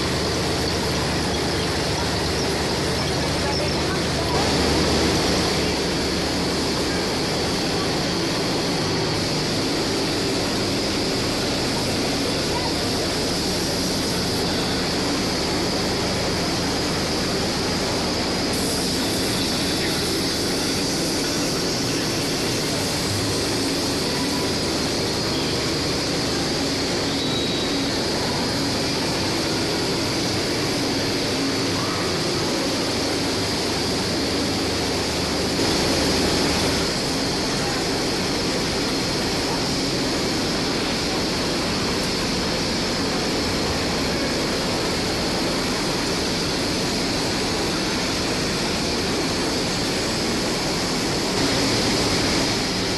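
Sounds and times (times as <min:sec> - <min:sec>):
factory machinery din: 0:00.0 - 0:52.9.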